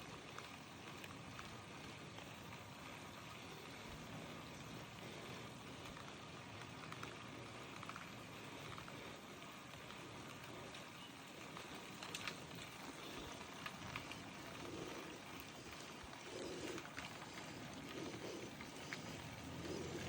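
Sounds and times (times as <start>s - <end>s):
faint steady hiss: 0.0s - 20.0s
scattered clicks: 0.0s - 20.0s.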